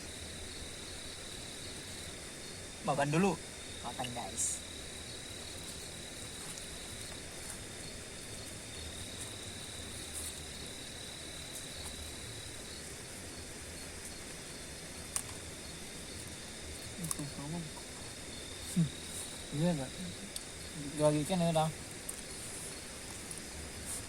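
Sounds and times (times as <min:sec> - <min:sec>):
faint even hiss: 0:00.0 - 0:24.0
insects trilling: 0:00.0 - 0:24.0.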